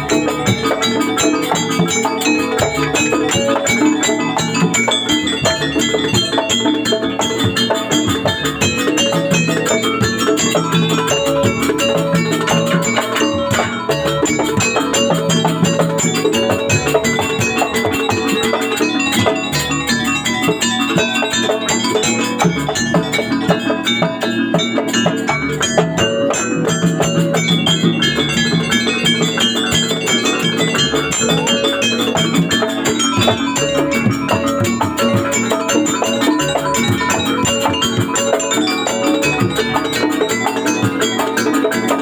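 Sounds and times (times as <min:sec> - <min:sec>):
drums playing: 0:00.0 - 0:42.0
tuned metal percussion: 0:00.0 - 0:42.0.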